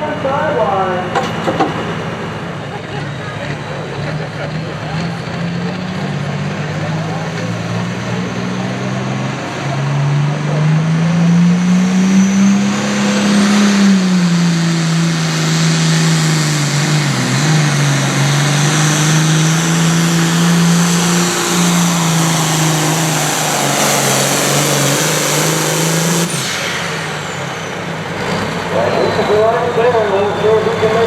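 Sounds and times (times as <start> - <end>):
engine running at high revs: 0.0 - 31.0.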